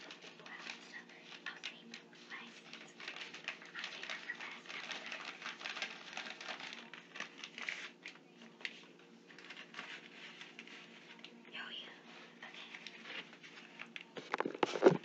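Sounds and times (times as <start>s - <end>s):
rustling and handling noises: 0.0s - 15.0s.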